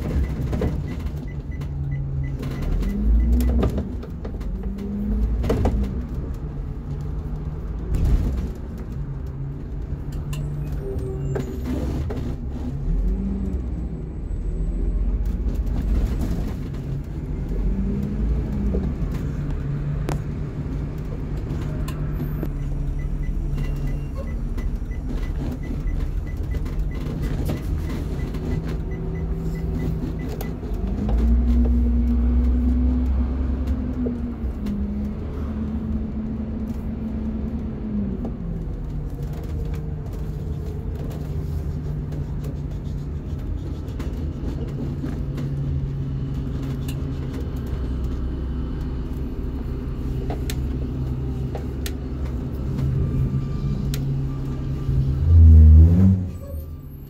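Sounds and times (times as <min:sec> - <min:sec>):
bus engine rumbling: 0:00.0 - 0:57.0.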